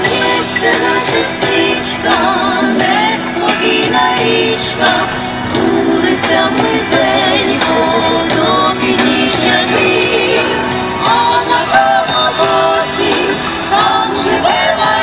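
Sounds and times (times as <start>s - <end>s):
song with singing voice and beat: 0.0s - 15.0s.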